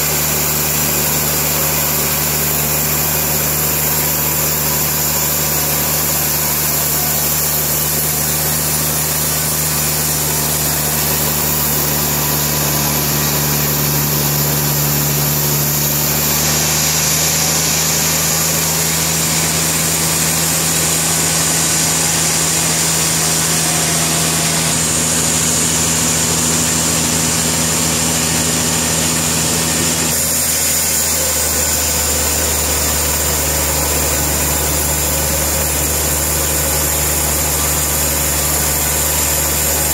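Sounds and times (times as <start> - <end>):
saw cutting through log: 0.0 - 39.9
sawmill engine running: 0.0 - 39.9.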